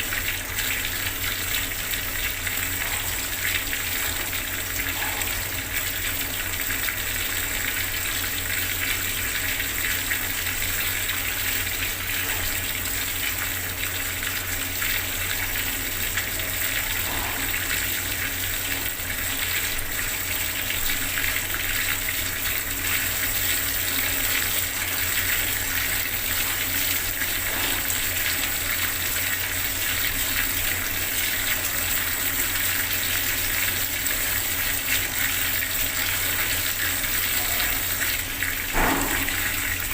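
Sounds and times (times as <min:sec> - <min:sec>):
water gushing from a tap: 0:00.0 - 0:39.9.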